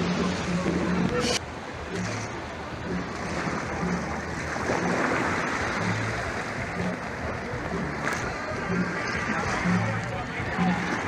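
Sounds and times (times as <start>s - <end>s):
seawater splashing and sloshing: 0.0s - 11.0s.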